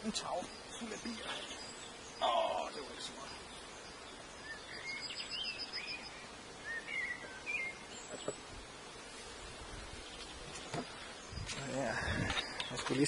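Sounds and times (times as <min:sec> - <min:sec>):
outdoor background noise: 0:00.0 - 0:13.0
small songbirds chirping: 0:00.0 - 0:13.0.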